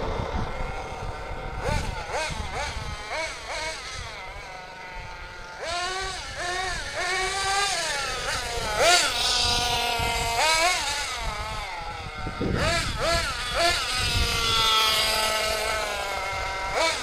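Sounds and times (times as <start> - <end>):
model engine revving: 0.0 - 17.0.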